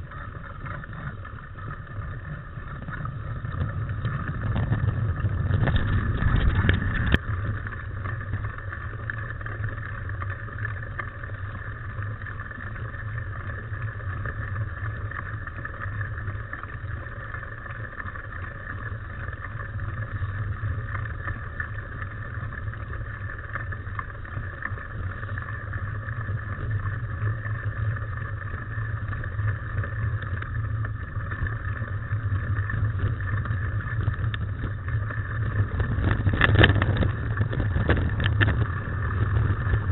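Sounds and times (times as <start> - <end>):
bike rattling: 0.0 - 39.9
knobby tyres on dirt trail: 0.0 - 39.9.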